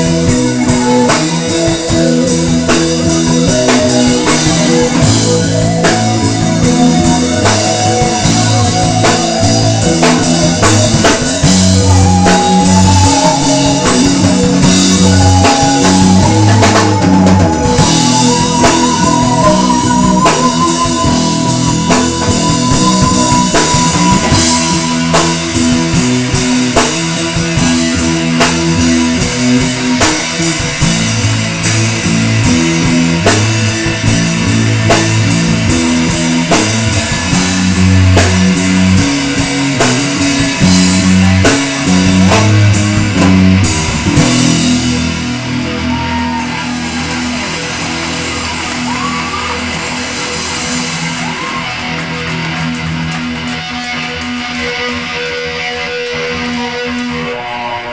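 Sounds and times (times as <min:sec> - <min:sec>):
lead guitar held wavering notes: 0:00.0 - 0:57.9
rock band music: 0:00.0 - 0:57.9.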